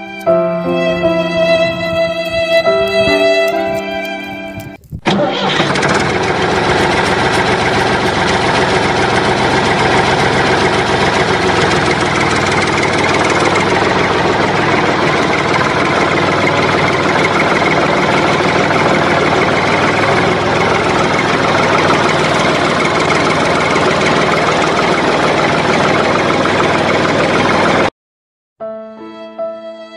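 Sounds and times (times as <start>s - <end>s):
tractor engine idling: 0.0s - 27.9s.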